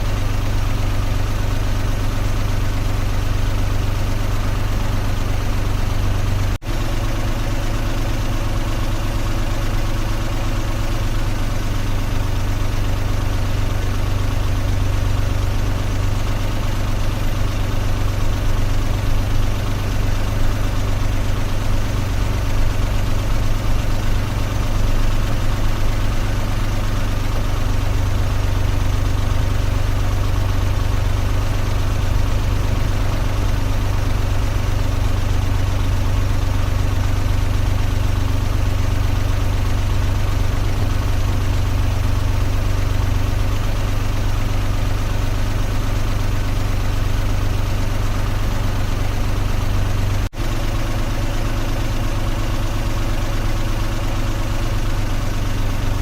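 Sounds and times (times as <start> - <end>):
car engine humming: 0.0 - 51.3.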